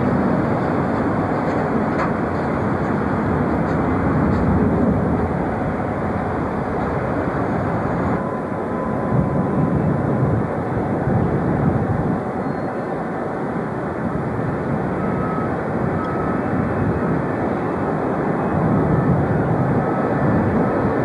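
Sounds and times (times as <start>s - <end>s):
jet engines droning: 0.0s - 21.0s.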